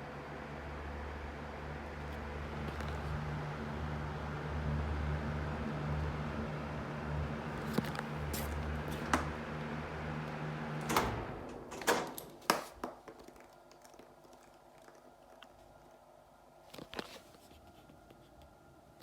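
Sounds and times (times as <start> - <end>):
ventilation fan humming: 0.0 - 19.0.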